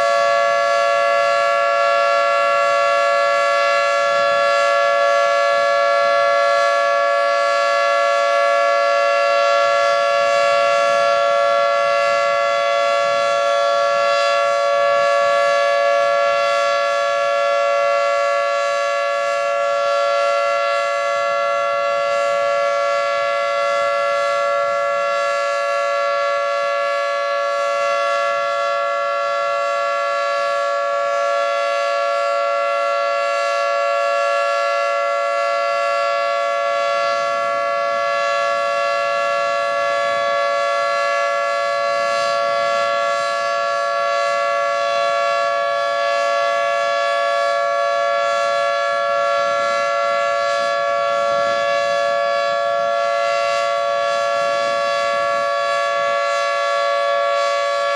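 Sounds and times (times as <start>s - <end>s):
dual-tone warning siren: 0.0s - 57.9s.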